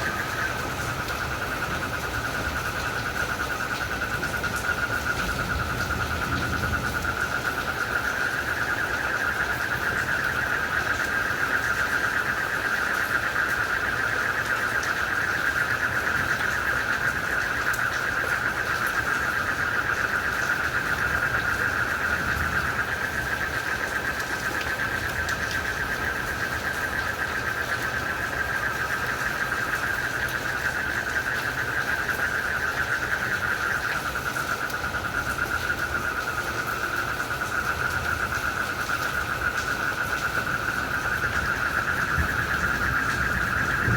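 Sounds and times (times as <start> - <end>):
frogs and crickets trilling: 0.0 - 43.9
rain hiss: 0.0 - 43.9.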